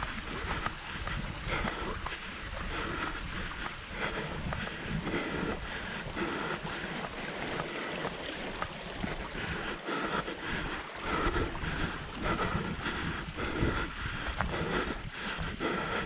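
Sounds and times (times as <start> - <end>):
footsteps on trail: 0.0 - 16.0
wind buffeting microphone: 0.0 - 16.0.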